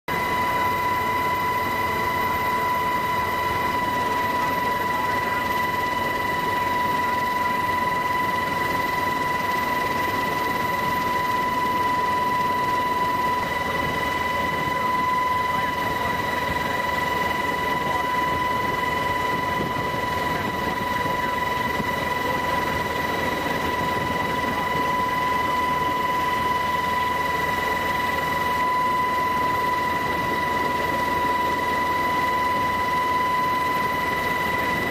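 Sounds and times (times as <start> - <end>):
aircraft engine and airflow noise: 0.1 - 34.9
high-pitched whine: 0.1 - 34.9.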